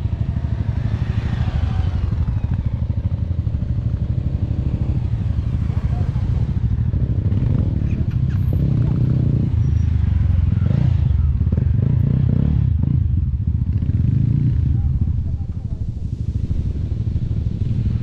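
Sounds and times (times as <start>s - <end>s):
motorcycles riding past: 0.0s - 15.6s.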